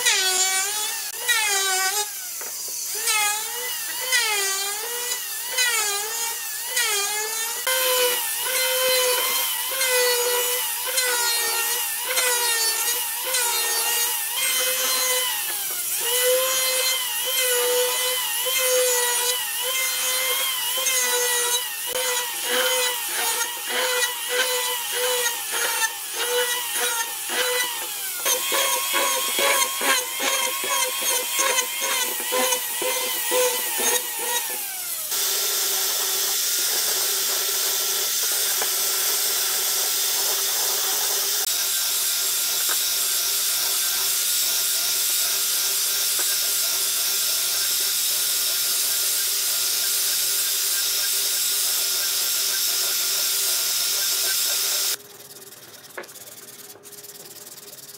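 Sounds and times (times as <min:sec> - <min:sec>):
electric planer shaving wood: 0:00.0 - 0:55.0.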